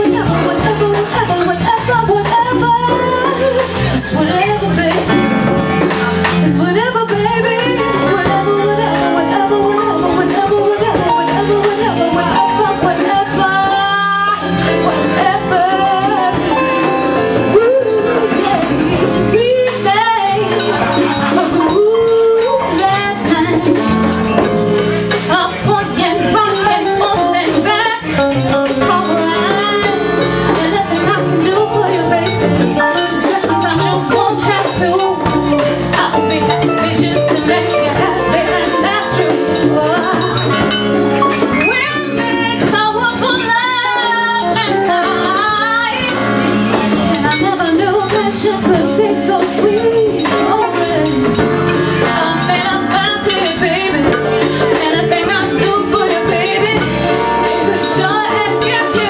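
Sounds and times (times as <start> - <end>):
congas: 0.0 - 59.0
drum kit: 0.0 - 59.0
electric bass: 0.0 - 59.0
keyboard: 0.0 - 59.0
woman singing: 0.0 - 59.0.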